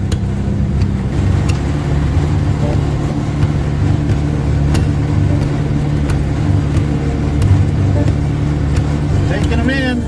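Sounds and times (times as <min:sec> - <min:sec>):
baler clacks: 0:00.0 - 0:10.0
tractor engine running: 0:00.0 - 0:10.0.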